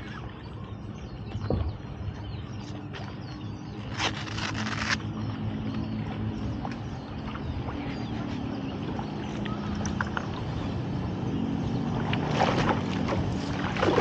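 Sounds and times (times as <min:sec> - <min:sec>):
faint hum: 0:00.0 - 0:14.0
low rumble on open water: 0:00.0 - 0:14.0.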